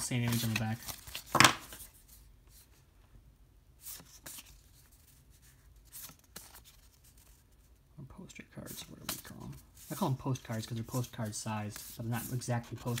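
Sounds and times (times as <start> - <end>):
cardstock cards rustling by hand: 0.0 - 2.8, 3.8 - 13.0.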